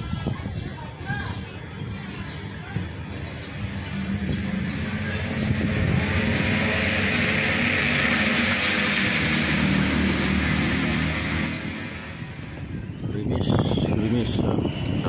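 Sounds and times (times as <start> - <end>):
engine humming with hiss: 1.0 - 15.0.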